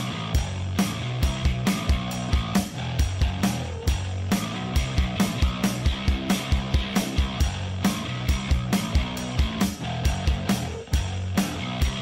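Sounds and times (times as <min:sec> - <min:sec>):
fast drum beat: 0:00.0 - 0:12.0
rock music: 0:00.0 - 0:12.0.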